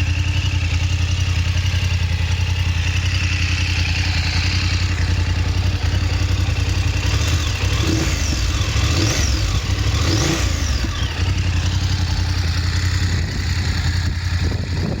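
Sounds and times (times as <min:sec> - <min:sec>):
motorcycle engine idling: 0:00.0 - 0:15.0
engine throttle blips: 0:03.0 - 0:15.0.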